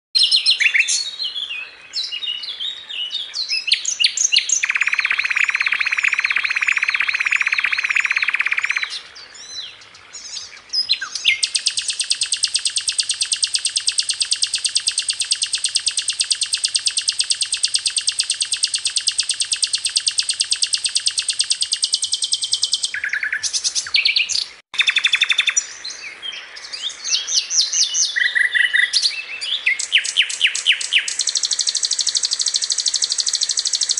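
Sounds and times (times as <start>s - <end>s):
songbird chirping and trilling: 0.2s - 33.9s.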